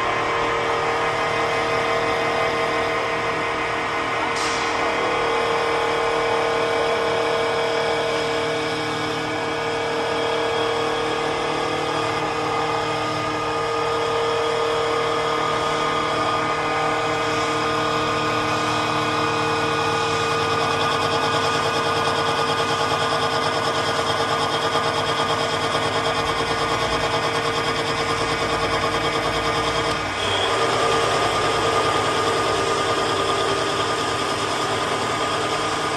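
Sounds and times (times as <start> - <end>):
wood lathe machine whine: 0.0 - 35.9.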